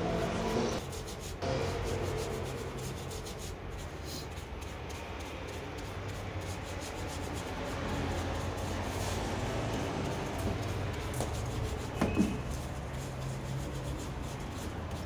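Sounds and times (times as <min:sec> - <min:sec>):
stiff brush scrubbing rubber: 0:00.0 - 0:15.0.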